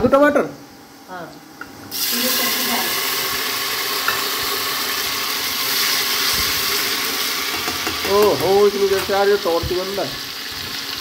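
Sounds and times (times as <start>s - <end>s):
tomatoes sizzling in hot oil: 1.9s - 11.0s.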